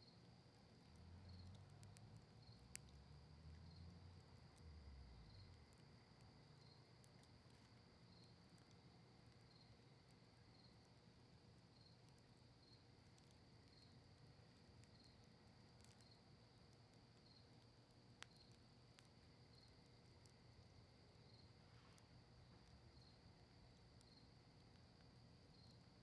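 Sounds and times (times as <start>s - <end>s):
campfire crackling and popping: 0.2s - 26.0s.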